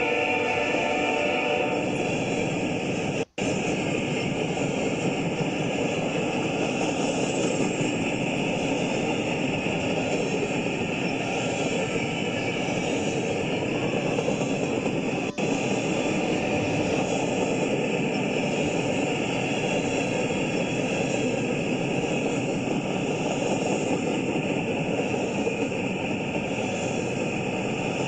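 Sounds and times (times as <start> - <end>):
freight train wheels rumbling: 0.0 - 28.0.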